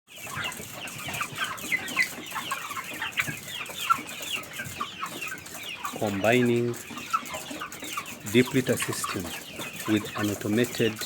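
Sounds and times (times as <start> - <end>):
chickens chirping and clucking: 0.1 - 11.0.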